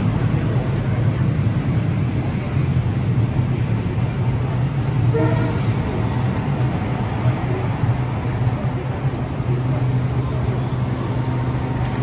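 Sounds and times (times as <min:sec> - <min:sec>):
diesel locomotive humming: 0:00.0 - 0:12.0.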